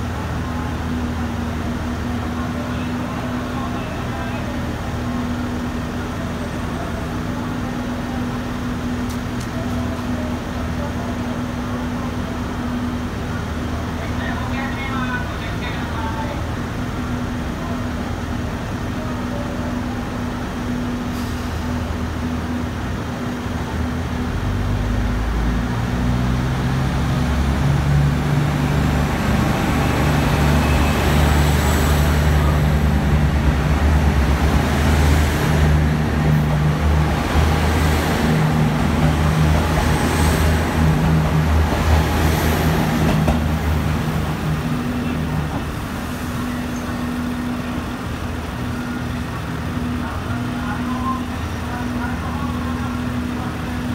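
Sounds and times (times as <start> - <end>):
diesel train engines running: 0.0 - 53.9
train cars rushing past: 0.0 - 53.9.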